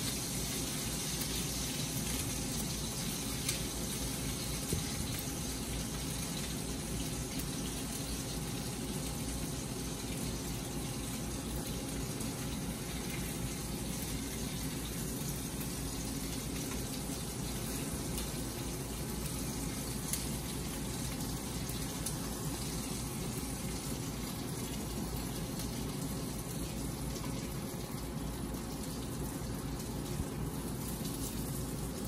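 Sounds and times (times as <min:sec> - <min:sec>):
meatballs sizzling in oil: 0:00.0 - 0:32.0.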